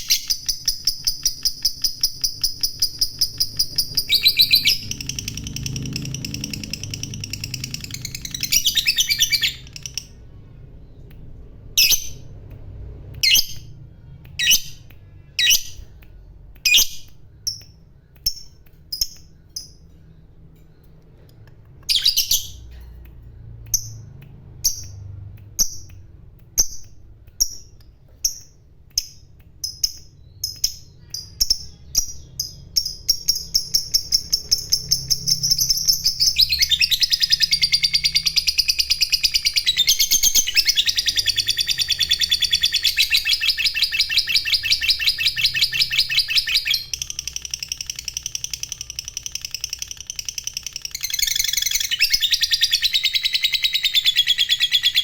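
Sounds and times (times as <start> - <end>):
lovebird calling and chattering: 0.0 - 11.1, 11.8 - 12.3, 13.1 - 13.8, 14.4 - 16.0, 16.6 - 20.0, 20.8 - 22.8, 23.7 - 55.0.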